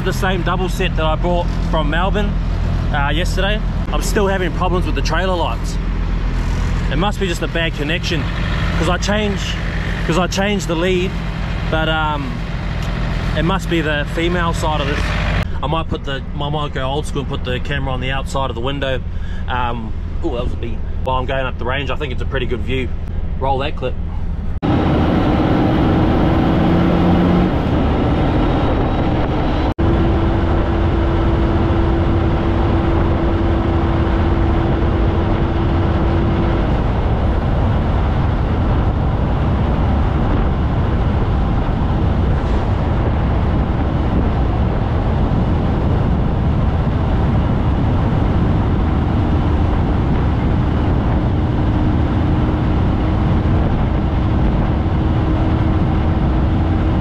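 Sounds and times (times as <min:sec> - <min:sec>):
road and wind noise: 0:00.0 - 0:57.0
steady engine tone: 0:00.0 - 0:57.0
truck diesel engine under load: 0:00.0 - 0:57.0.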